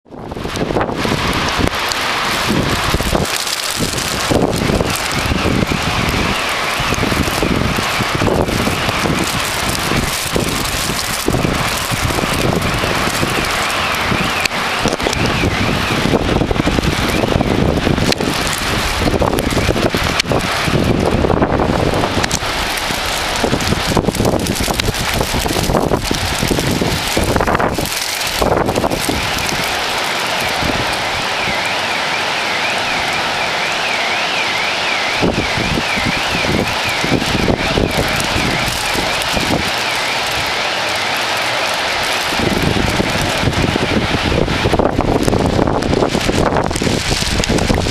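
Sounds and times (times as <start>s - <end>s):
wind buffeting microphone: 0.0s - 33.4s, 35.1s - 47.9s
heavy rain pouring: 0.0s - 47.9s.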